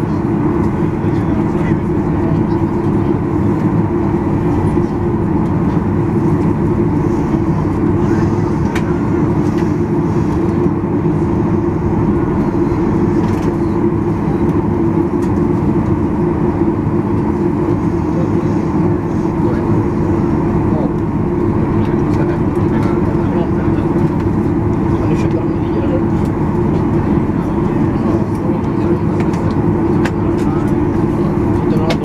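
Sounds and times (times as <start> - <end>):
aircraft cabin hum and rush: 0.0 - 32.0.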